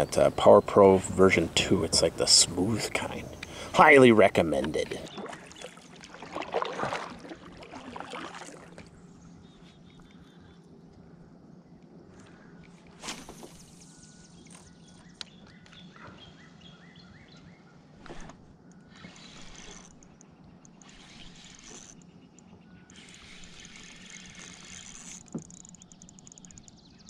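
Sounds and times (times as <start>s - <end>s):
outdoor ambience: 0.0s - 27.0s.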